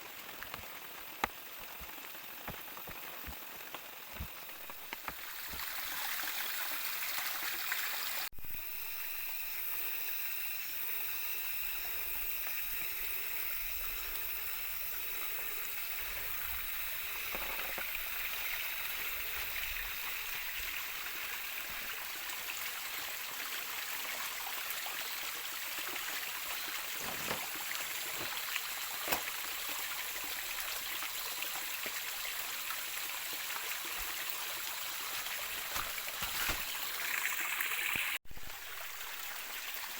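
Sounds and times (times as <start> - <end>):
rushing water: 0.0 - 8.3, 13.8 - 39.9.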